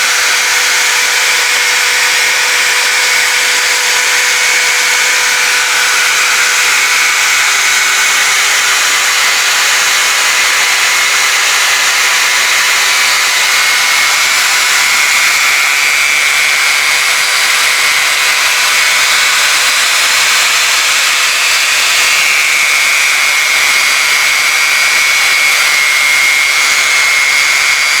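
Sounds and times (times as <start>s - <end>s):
lathe motor whine: 0.0s - 28.0s
tool hissing on spinning workpiece: 0.0s - 28.0s.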